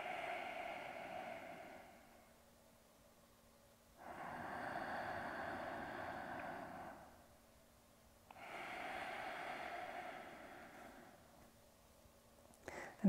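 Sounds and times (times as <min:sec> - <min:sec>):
woman breathing deeply: 0:00.0 - 0:02.5, 0:03.9 - 0:11.6, 0:12.6 - 0:13.0.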